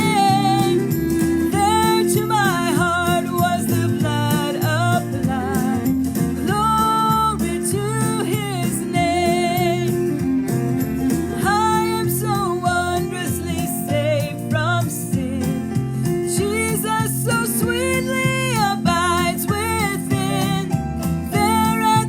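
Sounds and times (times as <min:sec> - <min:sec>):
strummed acoustic guitar: 0:00.0 - 0:22.0
woman singing with vibrato: 0:00.0 - 0:22.0.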